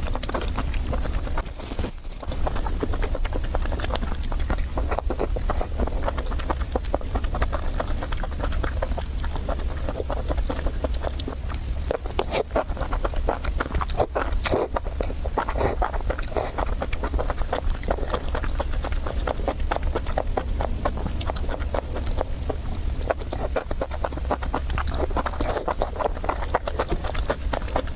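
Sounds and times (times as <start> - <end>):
person chewing and smacking food: 0.0 - 27.9
steady low hum: 0.0 - 27.9.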